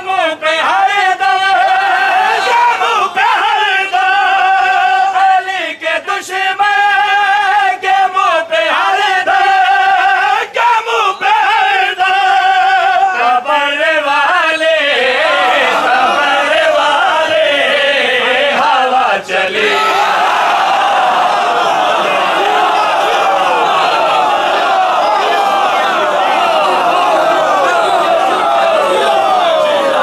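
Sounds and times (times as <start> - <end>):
men's voices chanting in chorus: 0.0 - 30.0.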